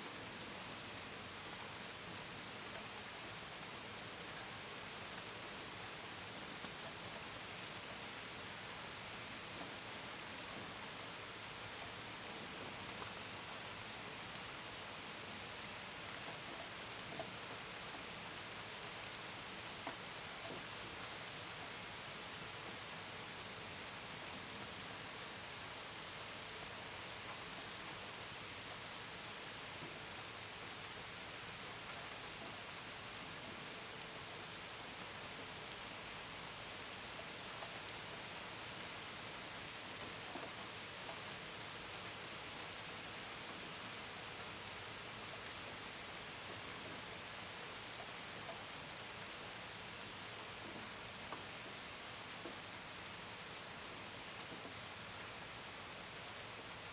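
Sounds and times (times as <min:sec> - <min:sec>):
rain pattering on a window: 0:00.0 - 0:56.9.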